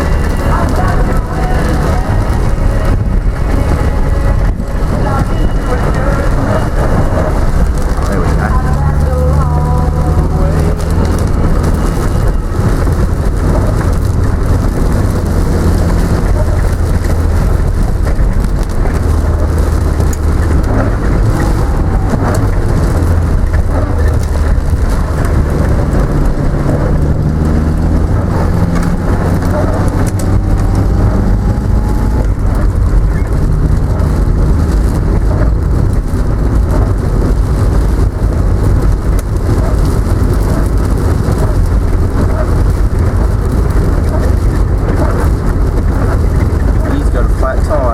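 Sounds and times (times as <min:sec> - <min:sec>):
car engine hum: 0:00.0 - 0:47.9
rain falling on car: 0:00.0 - 0:47.9
tyre and road noise: 0:00.0 - 0:47.9.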